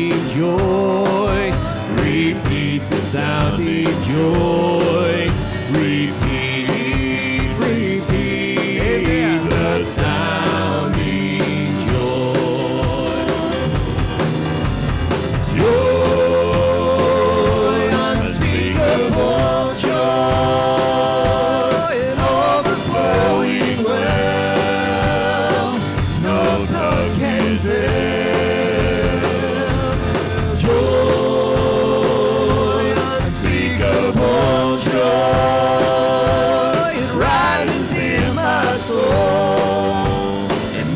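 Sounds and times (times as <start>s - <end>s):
drums: 0.0s - 40.9s
people singing: 0.0s - 40.9s
worship band playing: 0.0s - 40.9s.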